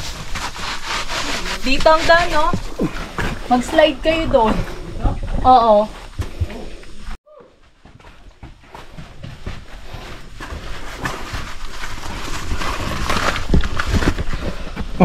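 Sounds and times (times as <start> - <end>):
footsteps on sand and gravel: 0.0 - 15.0.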